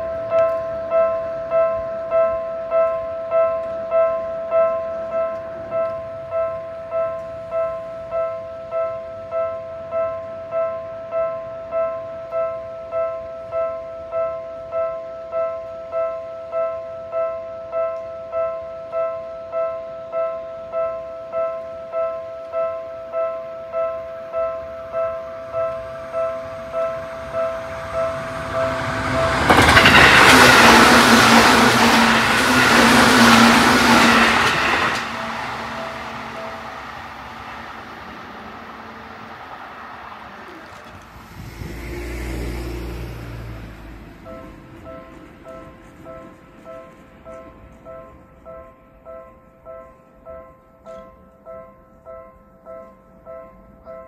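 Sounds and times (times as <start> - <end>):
level-crossing warning bell dinging: 0.0 - 41.0, 43.3 - 49.4
electric train passing: 0.0 - 49.1.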